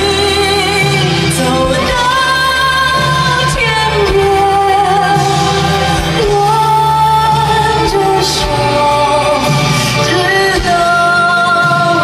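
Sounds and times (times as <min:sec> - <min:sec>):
instrumental accompaniment: 0:00.0 - 0:12.0
man singing with vibrato: 0:00.0 - 0:12.0.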